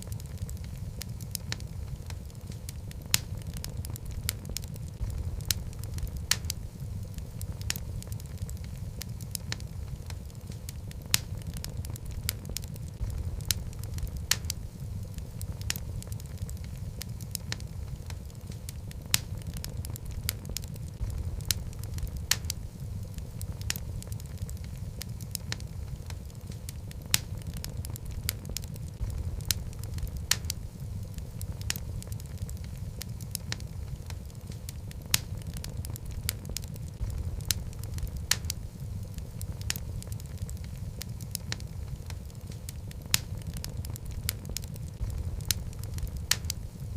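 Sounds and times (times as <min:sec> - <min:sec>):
wood logs burning and crackling: 0:00.0 - 0:46.9.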